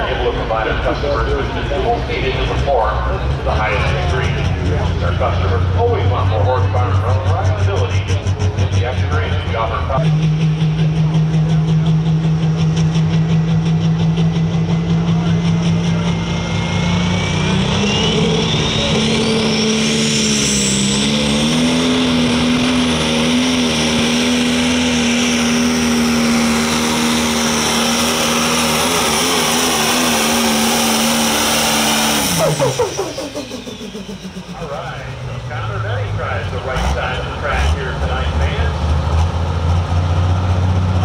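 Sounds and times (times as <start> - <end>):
high whine: 0.0 - 38.7
diesel engine running flat out: 0.0 - 41.0.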